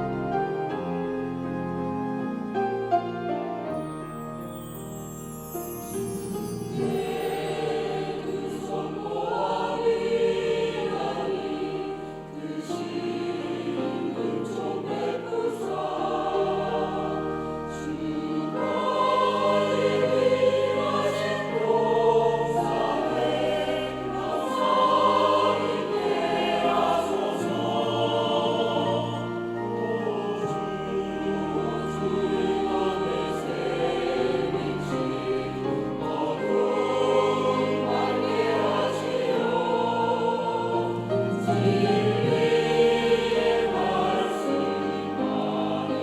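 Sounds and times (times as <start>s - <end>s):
church choir singing a hymn: 0.0s - 46.0s.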